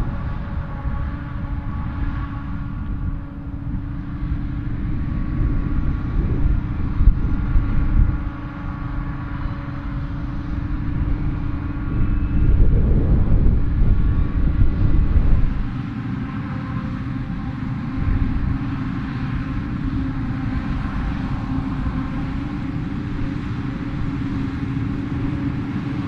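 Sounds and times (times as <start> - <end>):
forage harvester running under load: 0.0 - 26.0.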